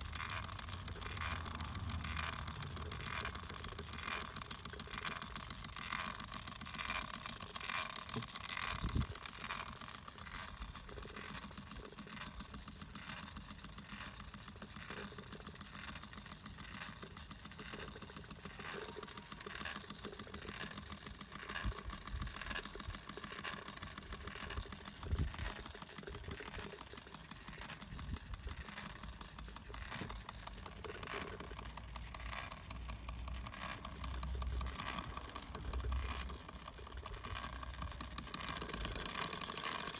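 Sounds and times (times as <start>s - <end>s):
light mechanical clatter: 0.0s - 39.9s
steam engine chuffing: 0.0s - 39.9s.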